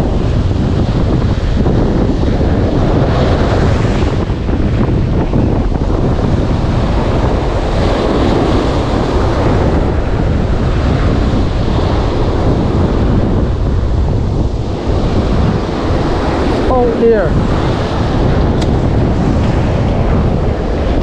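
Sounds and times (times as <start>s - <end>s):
surf breaking on shore: 0.0s - 21.0s
wind buffeting microphone: 0.0s - 21.0s.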